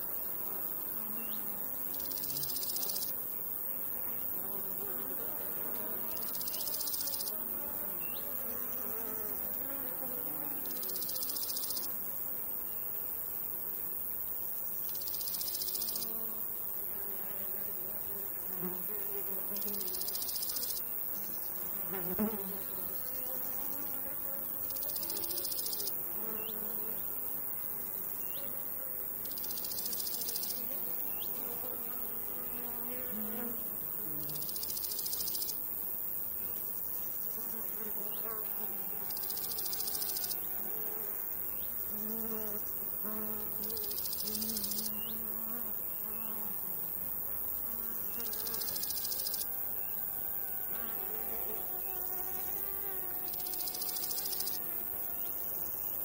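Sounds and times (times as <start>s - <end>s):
crickets stridulating: 0.0s - 56.0s
insects buzzing: 0.0s - 56.0s.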